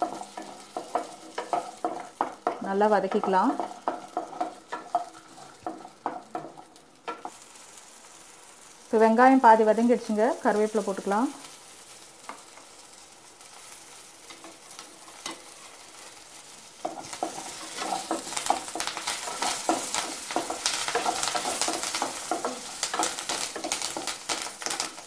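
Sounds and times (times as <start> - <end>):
spatula scraping a pan: 0.0 - 7.8, 11.4 - 25.0
onions sizzling in hot oil: 0.0 - 25.0.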